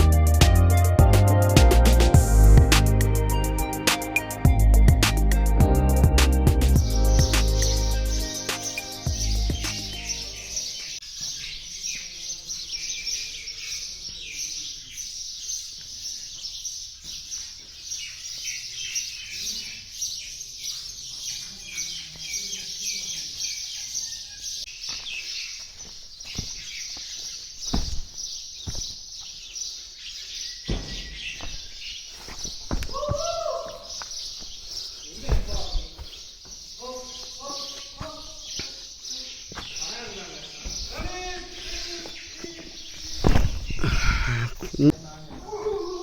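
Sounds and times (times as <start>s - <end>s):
small birds chirping: 2.9s - 46.0s.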